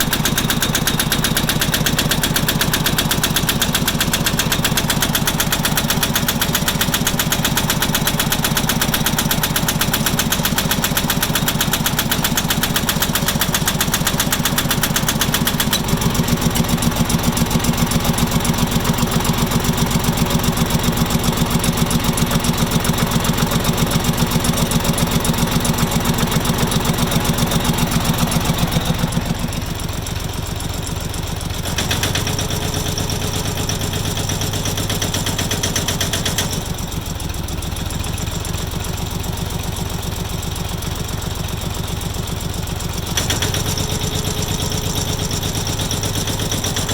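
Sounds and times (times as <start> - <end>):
diesel tractor engine knocking: 0.0 - 46.9.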